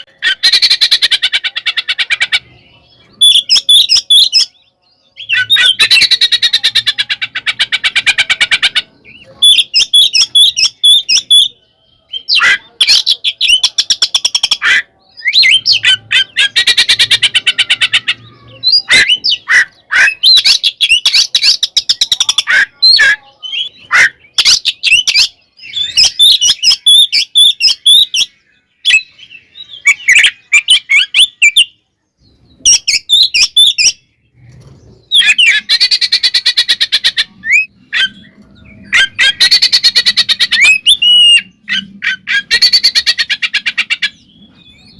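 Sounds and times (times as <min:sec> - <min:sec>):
songbird chattering and whistling: 0:00.0 - 0:44.9.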